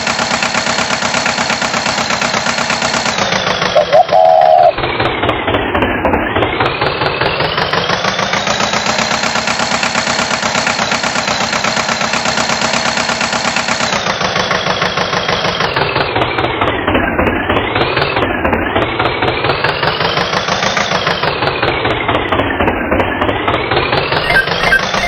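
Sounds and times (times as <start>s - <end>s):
tractor engine chugging: 0.0s - 25.0s.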